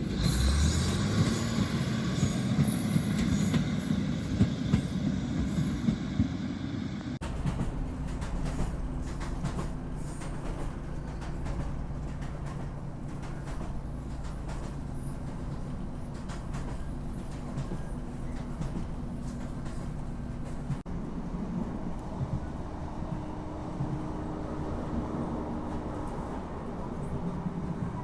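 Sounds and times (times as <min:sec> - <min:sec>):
train rumbling: 0:00.0 - 0:28.0.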